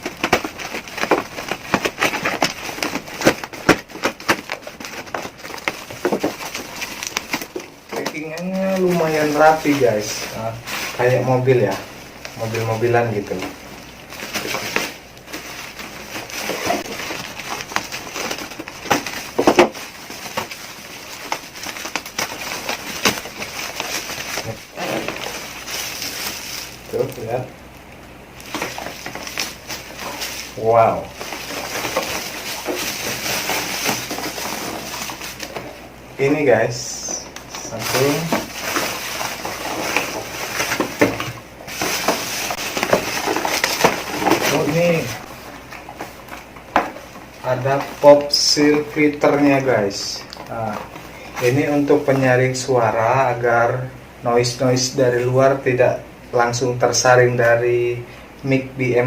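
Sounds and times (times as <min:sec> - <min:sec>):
packaging rustling and scraping: 0:00.0 - 0:27.8, 0:28.4 - 0:55.9.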